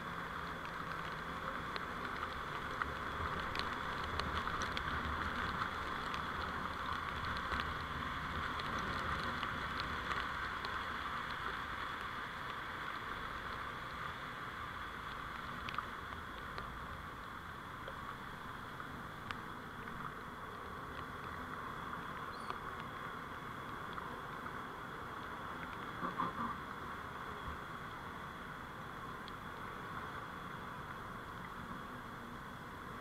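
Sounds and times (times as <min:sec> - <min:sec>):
faint ticks: 0:00.0 - 0:33.0
vehicle road and engine noise: 0:00.0 - 0:33.0.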